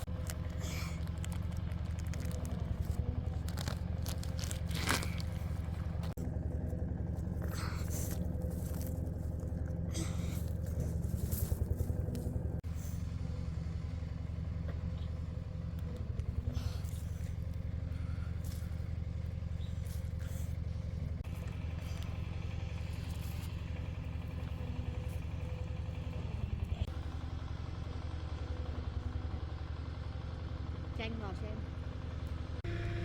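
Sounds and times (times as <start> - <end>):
small engine idling: 0.0 - 33.0.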